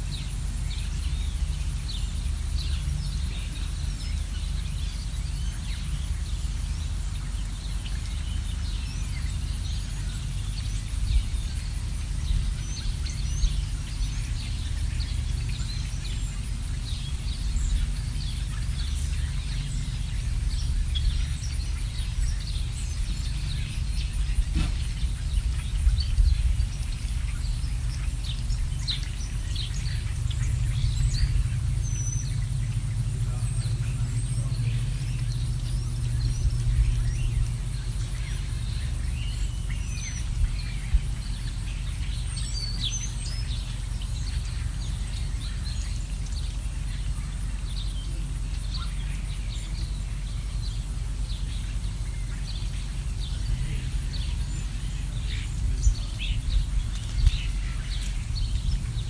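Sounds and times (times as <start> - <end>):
birds chirping: 0.0 - 59.0
steady low rumble: 0.0 - 59.0.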